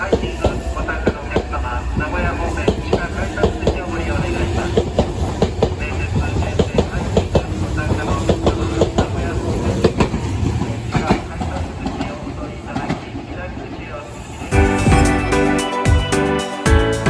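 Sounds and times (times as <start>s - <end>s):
electric train rumbling: 0.0s - 15.7s.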